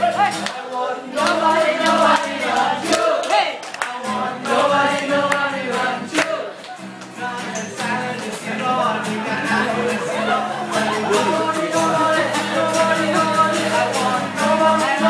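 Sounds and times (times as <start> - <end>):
people singing together: 0.0 - 15.0
strummed acoustic guitar: 0.0 - 15.0.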